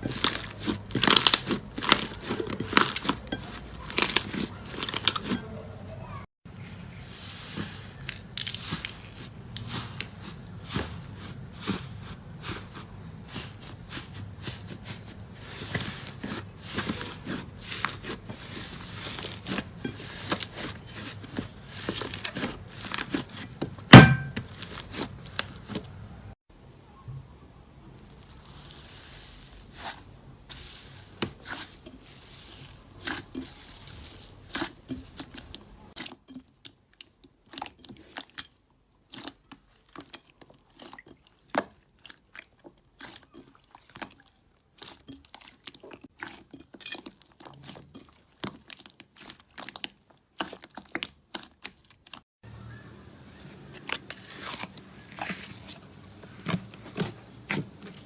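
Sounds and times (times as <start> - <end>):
slime squishing and crackling: 0.0 - 6.1, 6.9 - 25.9, 28.0 - 52.2, 53.4 - 58.0.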